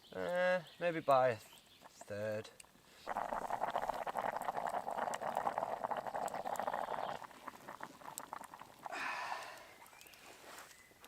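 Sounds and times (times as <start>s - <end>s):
stew bubbling and popping: 1.8s - 11.0s.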